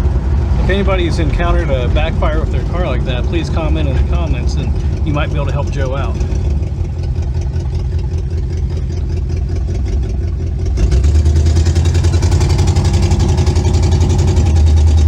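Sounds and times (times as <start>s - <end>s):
car engine while driving: 0.0s - 15.0s.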